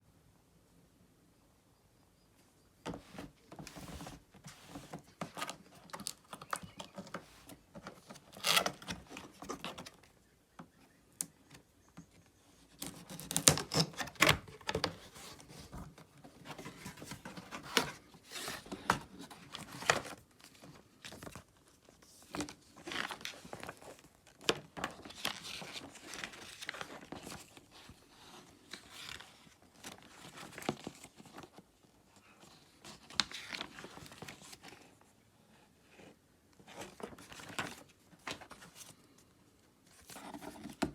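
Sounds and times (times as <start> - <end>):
plastic and cardboard crinkling: 2.8 - 10.2, 12.6 - 35.1, 36.6 - 39.2, 39.9 - 40.9.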